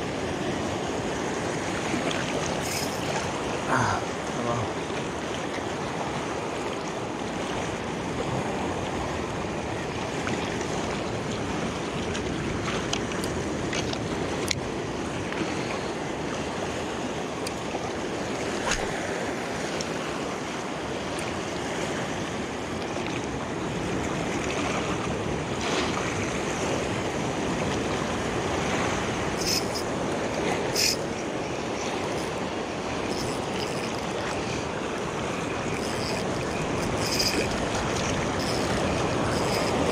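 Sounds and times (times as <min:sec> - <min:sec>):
sea waves washing at shore: 0:00.0 - 0:39.9.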